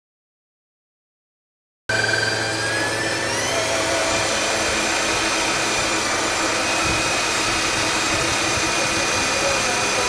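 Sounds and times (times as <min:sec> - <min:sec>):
electric drill boring into metal: 0:01.9 - 0:10.0.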